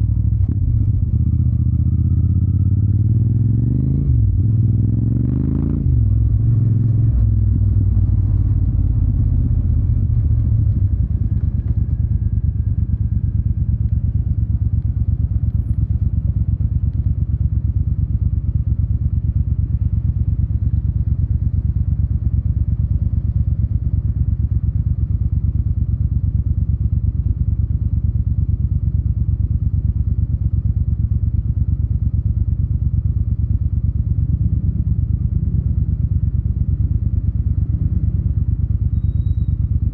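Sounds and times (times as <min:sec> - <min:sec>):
motorcycle engine throbbing: 0:00.0 - 0:39.9.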